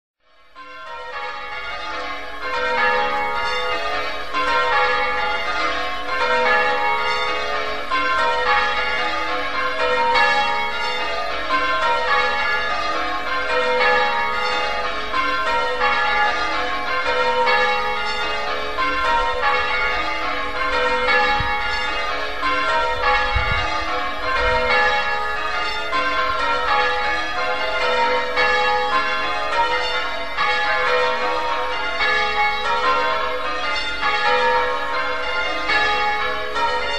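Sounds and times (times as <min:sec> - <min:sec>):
church bells ringing changes: 0:00.3 - 0:36.9.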